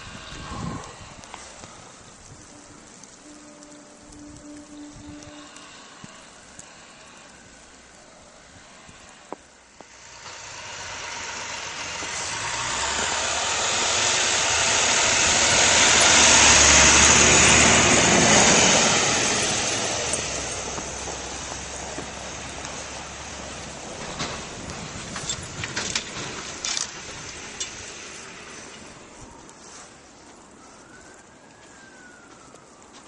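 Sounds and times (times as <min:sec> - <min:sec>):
truck engine hum passing: 0:00.0 - 0:29.4
rushing noise of passing truck: 0:00.0 - 0:30.1.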